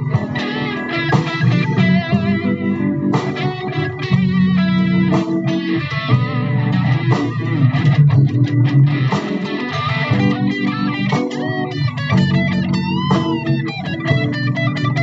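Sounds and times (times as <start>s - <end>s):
bass guitar: 0.0s - 15.0s
electric guitar melody: 0.0s - 15.0s.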